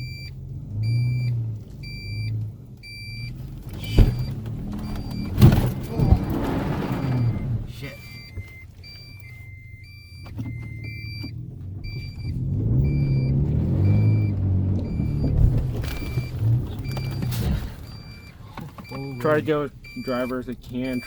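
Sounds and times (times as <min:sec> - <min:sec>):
truck engine: 0:00.0 - 0:21.0
warning chime beeping: 0:02.9 - 0:21.0.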